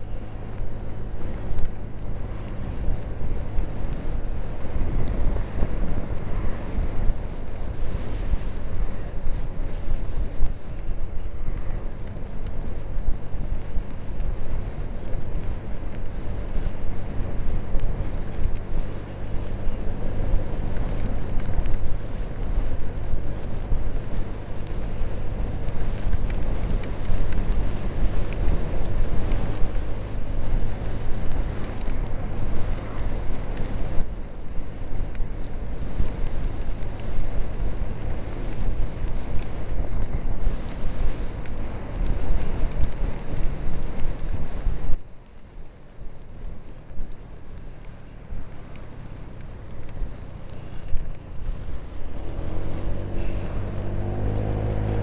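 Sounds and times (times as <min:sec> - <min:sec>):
low rumble of scooter ride: 0:00.0 - 0:55.0.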